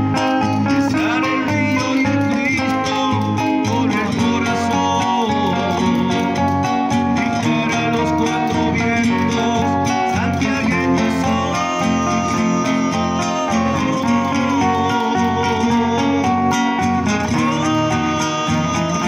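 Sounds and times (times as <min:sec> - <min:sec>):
classical guitars playing folk song: 0:00.0 - 0:19.0.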